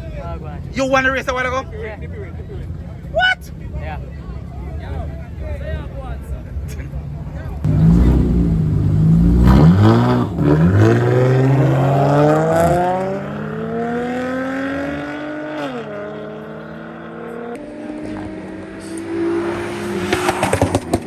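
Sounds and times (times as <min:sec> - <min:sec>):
drag race car accelerating: 0:04.1 - 0:21.0.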